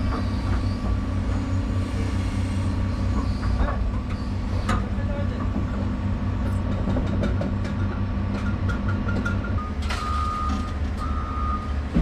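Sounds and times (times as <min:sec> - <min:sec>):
excavator engine drone: 0:00.0 - 0:12.0.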